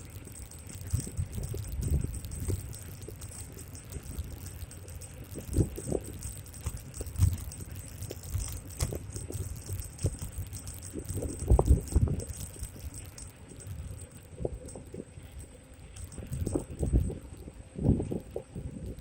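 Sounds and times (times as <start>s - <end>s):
thin steady high tone: 0.0s - 19.0s
wind buffeting microphone: 0.1s - 19.0s.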